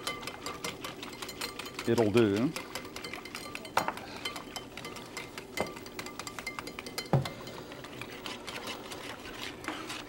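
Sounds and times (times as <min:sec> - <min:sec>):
whisk clicking against bowl: 0:00.0 - 0:10.0
whisk knocking bowl: 0:00.0 - 0:10.0.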